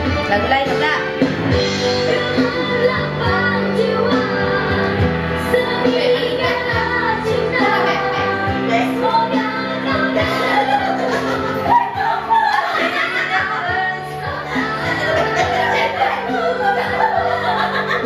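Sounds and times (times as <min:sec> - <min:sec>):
backing music: 0:00.0 - 0:18.0
woman singing into microphone: 0:01.8 - 0:18.0.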